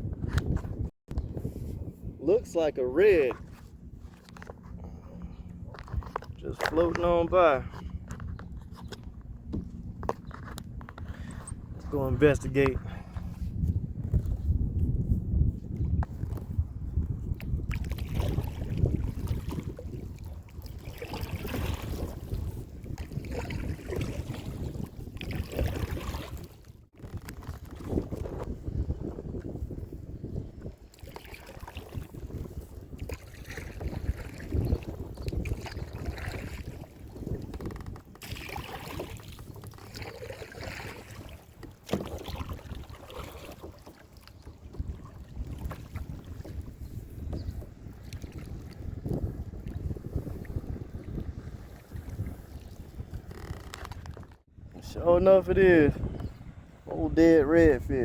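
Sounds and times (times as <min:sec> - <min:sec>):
kayak moving through water: 0:00.0 - 0:58.0
wind buffeting microphone: 0:00.0 - 0:58.0.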